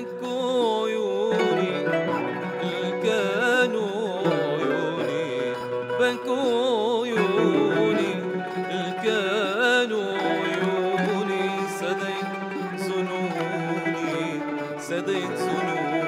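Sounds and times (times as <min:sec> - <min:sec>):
man singing: 0:00.0 - 0:16.0
plucked oud and qanun: 0:00.0 - 0:16.0.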